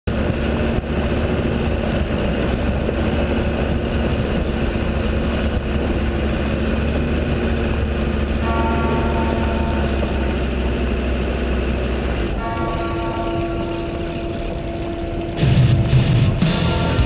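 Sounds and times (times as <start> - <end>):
diesel engine rumble: 0.0 - 17.0
tyres on gravel track: 0.1 - 17.0.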